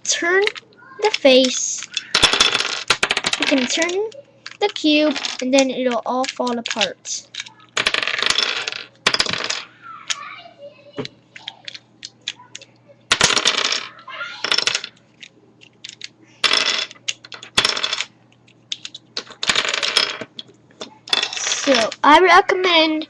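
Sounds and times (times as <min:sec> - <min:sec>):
plastic cube pieces clattering: 0:00.1 - 0:09.7, 0:11.4 - 0:22.8.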